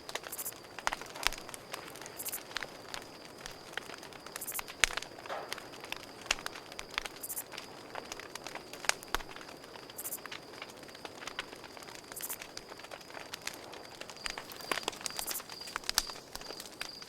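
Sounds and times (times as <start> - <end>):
campfire crackling and popping: 0.0 - 17.0
crickets trilling: 0.0 - 17.0.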